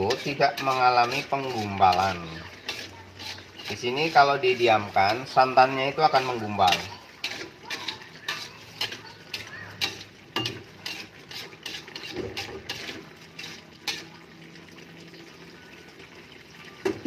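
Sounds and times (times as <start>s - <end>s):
metal spatula scraping a wok: 0.0s - 14.2s.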